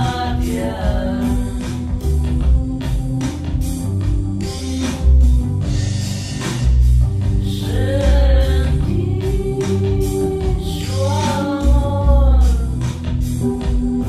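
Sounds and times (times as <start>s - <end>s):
song with singer bass and drums: 0.0s - 14.0s.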